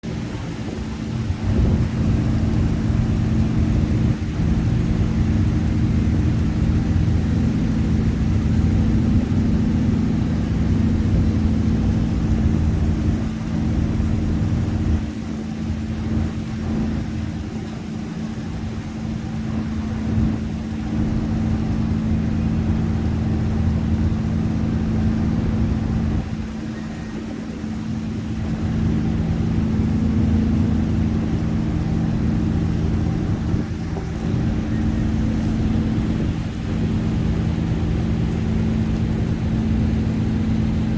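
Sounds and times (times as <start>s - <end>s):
ferry engine droning: 0.0s - 40.9s
rain: 0.0s - 40.9s.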